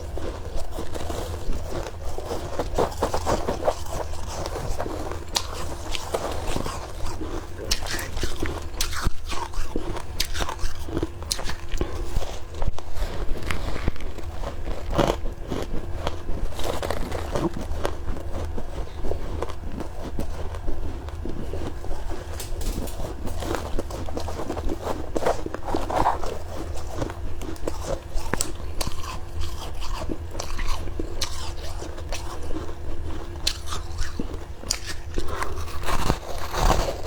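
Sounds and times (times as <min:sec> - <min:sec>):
crunching and chewing frost: 0:00.0 - 0:37.0.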